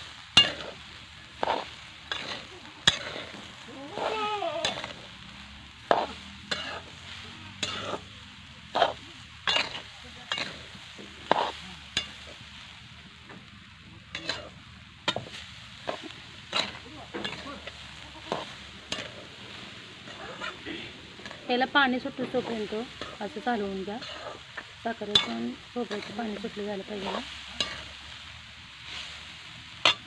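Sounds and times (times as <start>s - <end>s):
spatula scraping a pan: 0.4s - 12.4s, 14.1s - 28.1s.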